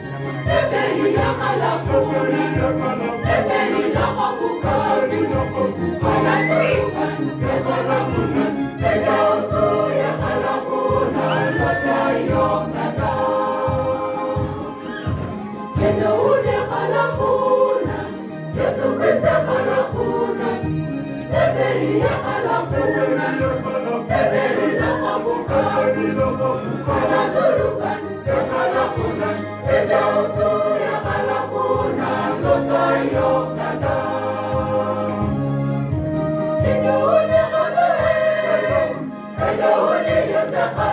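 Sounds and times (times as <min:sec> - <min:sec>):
bass accompaniment beat: 0:00.0 - 0:40.9
choir singing a carol: 0:00.0 - 0:40.9.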